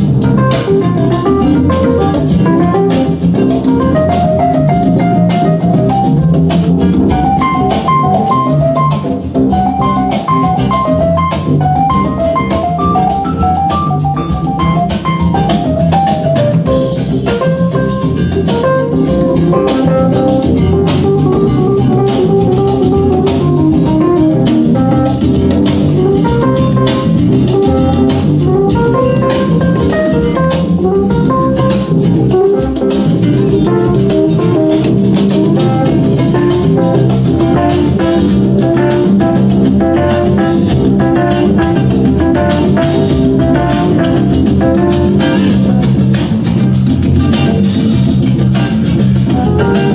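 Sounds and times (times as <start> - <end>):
organ and keyboard music: 0.0 - 49.9
steady drum beat: 0.0 - 49.9.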